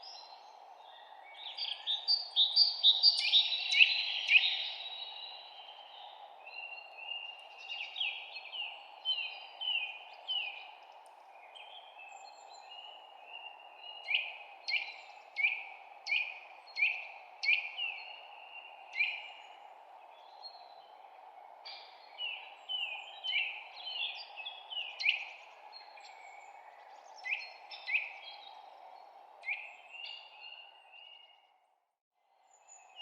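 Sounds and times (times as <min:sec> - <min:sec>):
songbirds chirping: 0:00.0 - 0:31.7.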